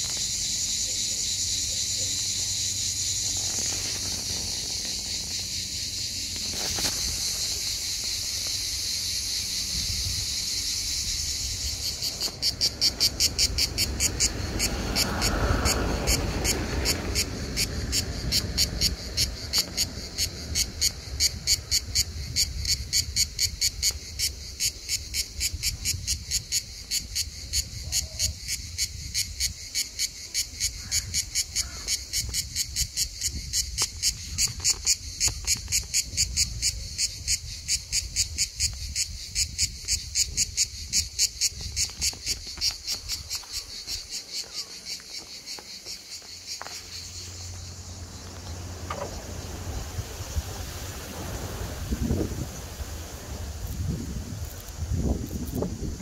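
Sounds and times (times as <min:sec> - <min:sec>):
cicada singing: 0:00.0 - 0:56.0.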